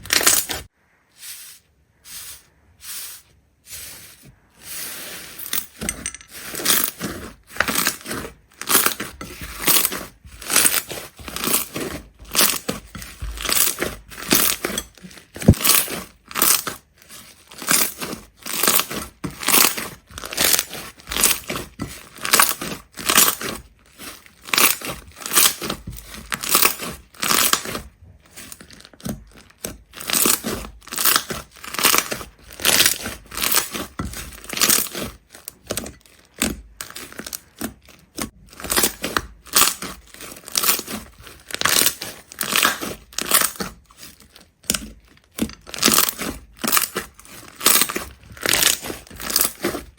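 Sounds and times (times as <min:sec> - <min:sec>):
crisp crunching and crackling: 0:00.0 - 0:00.7, 0:03.8 - 0:49.9.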